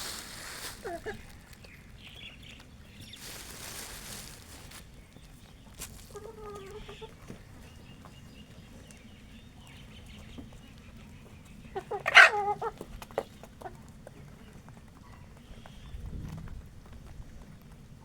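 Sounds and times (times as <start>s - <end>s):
chickens clucking: 0.0s - 15.8s.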